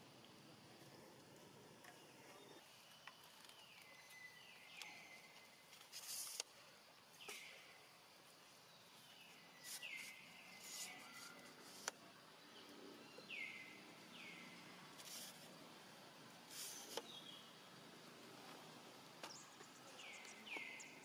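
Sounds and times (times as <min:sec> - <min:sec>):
faint outdoor ambience: 0:00.0 - 0:21.0.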